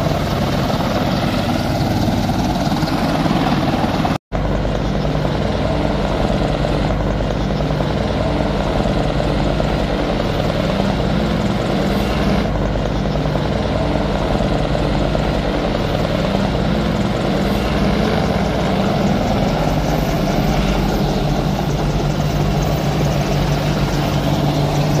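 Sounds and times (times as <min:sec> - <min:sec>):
helicopter rotors droning: 0:00.0 - 0:25.0.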